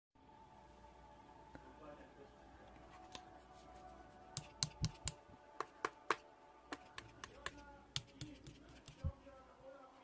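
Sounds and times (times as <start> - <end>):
faint background music: 0.2 - 10.0.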